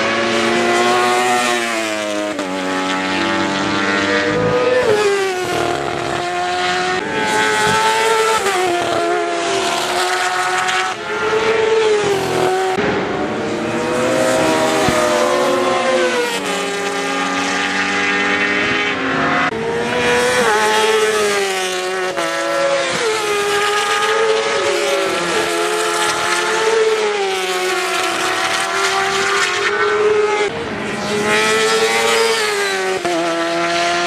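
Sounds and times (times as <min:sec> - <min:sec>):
racing motorcycles revving: 0:00.0 - 0:34.0.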